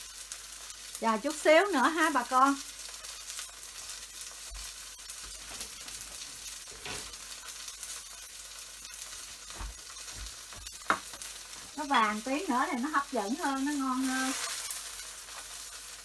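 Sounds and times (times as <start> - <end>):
crepe sizzling in oil: 0.0 - 16.0.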